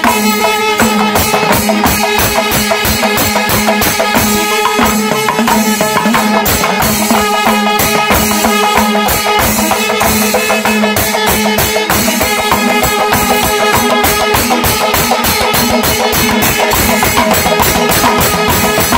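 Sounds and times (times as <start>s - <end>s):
cymbals clashing: 0.0s - 18.9s
fast drumming: 0.0s - 18.9s.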